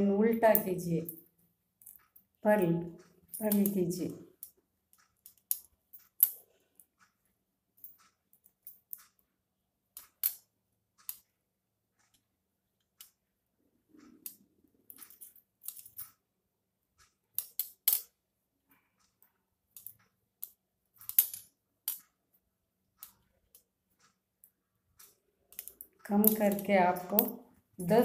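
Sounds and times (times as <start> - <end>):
knitting needles clicking: 0.3 - 9.3, 9.9 - 11.4, 12.0 - 16.3, 16.9 - 28.0.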